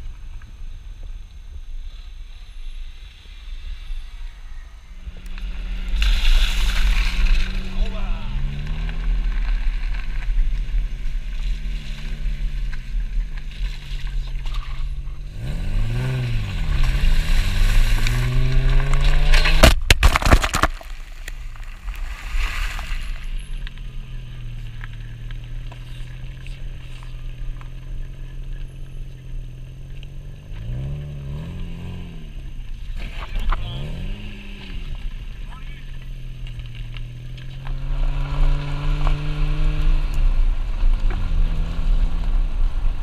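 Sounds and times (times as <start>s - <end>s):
vehicle engine revving: 3.7s - 19.8s, 22.9s - 43.0s.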